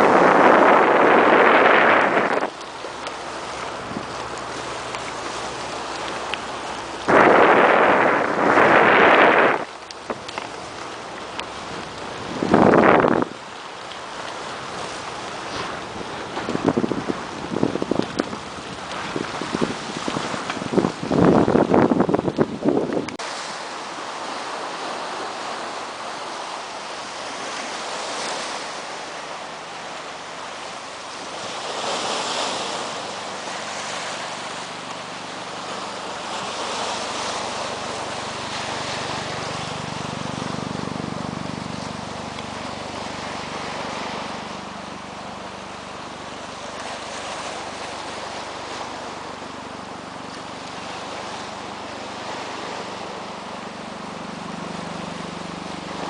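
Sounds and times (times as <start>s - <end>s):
low engine hum: 0.0s - 56.0s
surf: 0.0s - 56.0s
wind: 0.0s - 56.0s.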